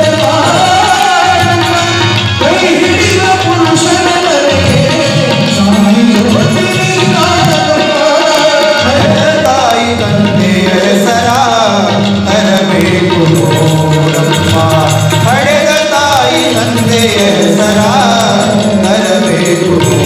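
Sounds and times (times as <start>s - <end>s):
folk singing: 0.0s - 20.0s
tabla rhythm: 0.0s - 20.0s.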